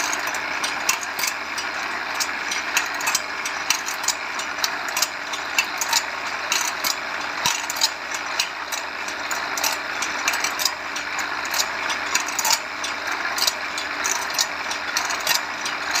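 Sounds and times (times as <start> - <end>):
feed mechanism clicks: 0.0 - 16.0
grinding wheel hiss: 0.0 - 16.0.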